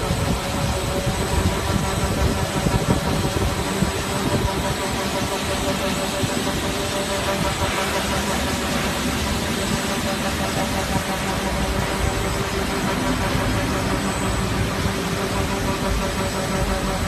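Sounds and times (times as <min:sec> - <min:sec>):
machine humming with steady tones: 0:00.0 - 0:17.0.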